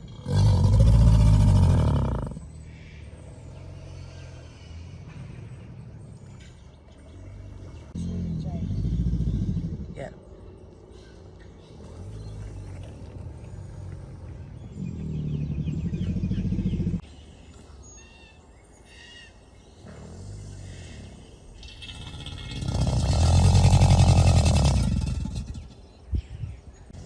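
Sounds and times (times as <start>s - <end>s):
alligators grunting: 0.0s - 17.1s, 19.8s - 26.0s
birds chirping: 0.0s - 27.0s.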